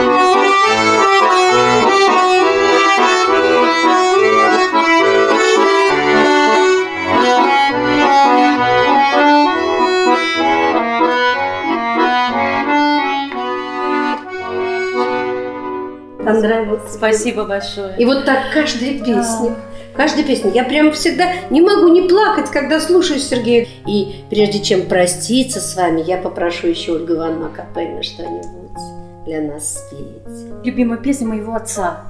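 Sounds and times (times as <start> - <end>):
button accordion folk melody: 0.0 - 30.7.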